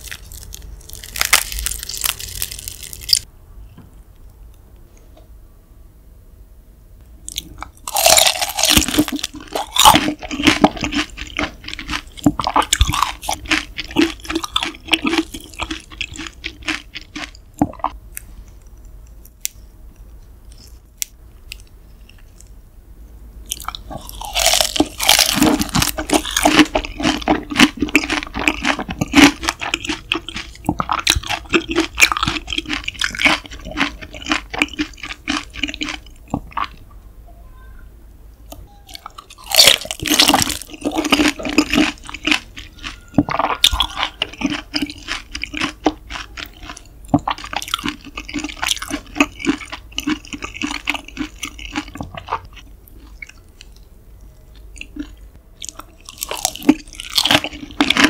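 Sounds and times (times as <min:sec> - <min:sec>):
wet crunchy chewing: 0:00.0 - 0:03.3, 0:07.3 - 0:19.4, 0:23.5 - 0:36.9, 0:38.9 - 0:53.9, 0:54.6 - 0:58.0.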